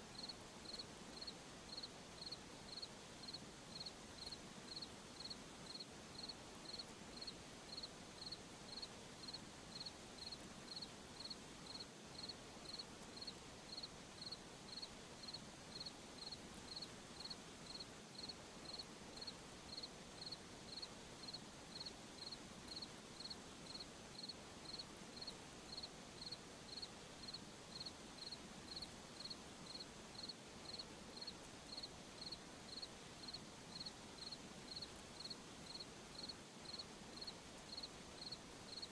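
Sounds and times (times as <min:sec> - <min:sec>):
faint background hiss: 0:00.0 - 0:38.9
cricket chirping: 0:00.2 - 0:38.9.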